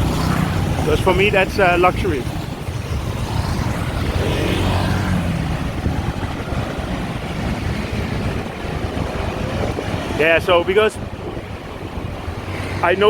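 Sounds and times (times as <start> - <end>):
street traffic: 0.0 - 13.0
vehicle engine humming: 0.0 - 13.0
wind rumble on microphone: 0.0 - 13.0.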